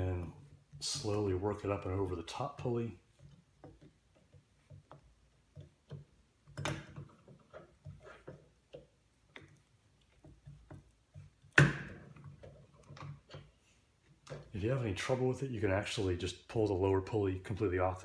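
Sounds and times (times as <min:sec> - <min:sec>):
belt clicking and rubbing on pulley: 0:00.0 - 0:14.8.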